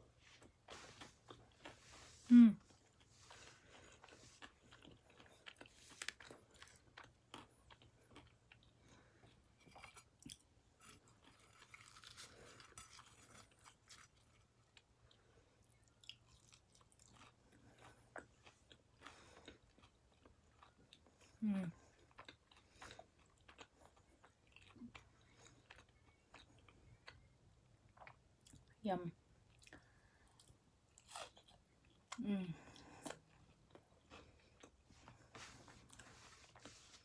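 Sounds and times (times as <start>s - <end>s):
faint chewing: 0.1s - 28.8s, 29.4s - 37.0s.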